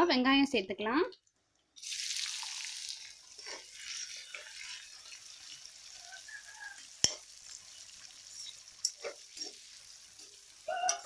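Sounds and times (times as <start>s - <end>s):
onions sizzling in hot oil: 1.8s - 11.0s.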